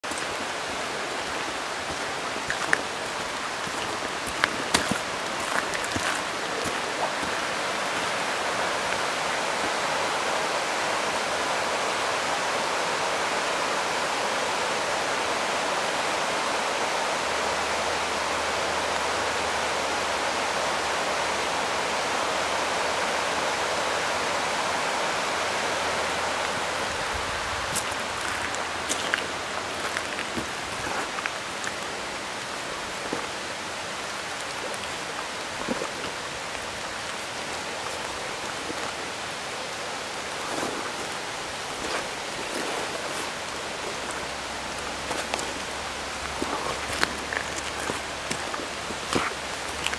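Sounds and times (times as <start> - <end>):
stream rushing: 0.0 - 49.9.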